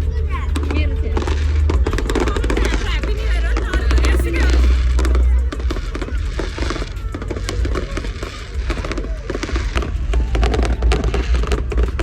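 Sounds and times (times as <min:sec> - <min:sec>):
fireworks popping and crackling: 0:00.0 - 0:12.0
music with heavy bass: 0:00.0 - 0:12.0.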